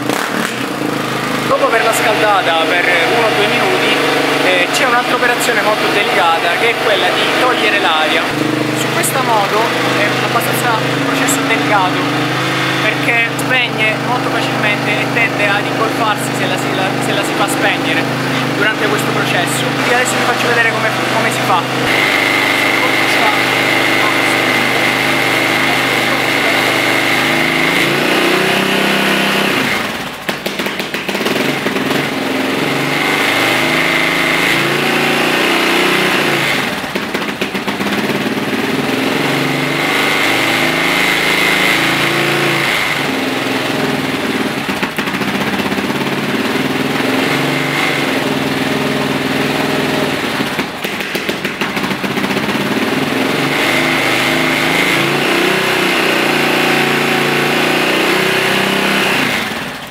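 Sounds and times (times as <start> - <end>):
motorcycle engine stumbling: 0.0 - 59.9.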